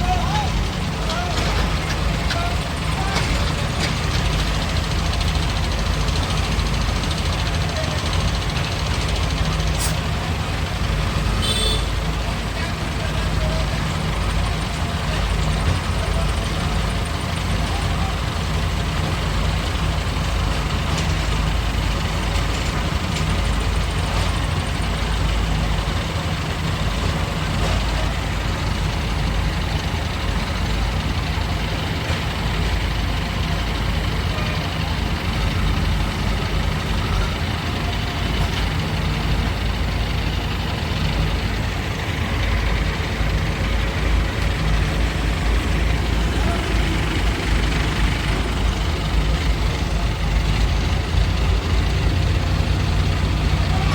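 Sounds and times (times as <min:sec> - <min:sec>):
heavy diesel engines droning: 0:00.0 - 0:53.9.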